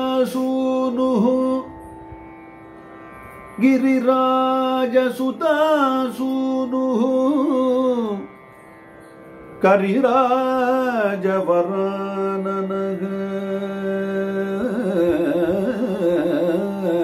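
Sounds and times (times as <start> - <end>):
man singing devotional song: 0.0 - 1.8, 3.6 - 8.3, 9.6 - 17.0.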